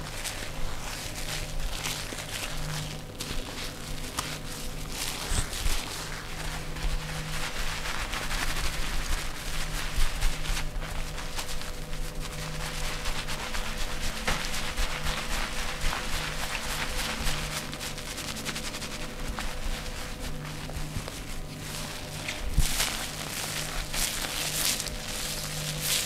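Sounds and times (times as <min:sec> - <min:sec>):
hands slapping and rubbing skin: 0:00.0 - 0:26.0
steady low hum: 0:00.0 - 0:26.0.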